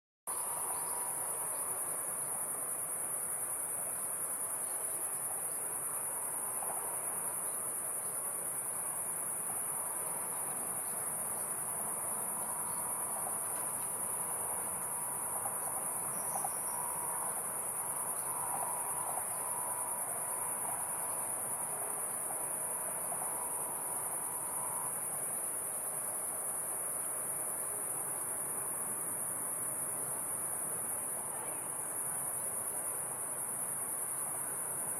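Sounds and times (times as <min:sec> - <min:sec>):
crickets chirring: 0:00.3 - 0:34.9
low background noise: 0:00.3 - 0:34.9.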